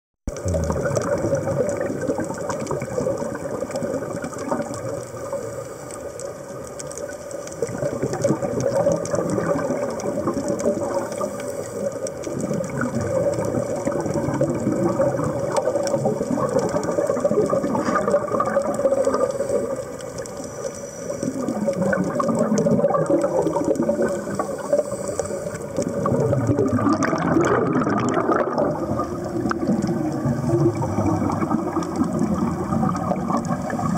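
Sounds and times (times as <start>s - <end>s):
air bubbling underwater: 0.3s - 5.0s, 7.6s - 11.3s, 12.3s - 19.8s, 21.3s - 25.0s, 25.7s - 33.9s.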